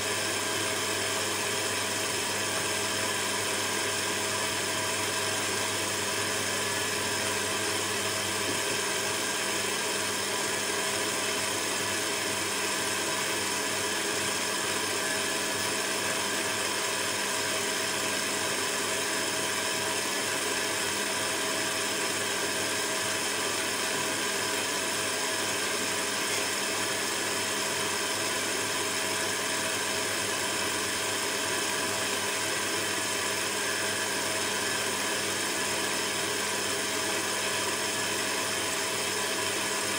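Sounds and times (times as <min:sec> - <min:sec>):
stand mixer motor hum: 0:00.0 - 0:39.9.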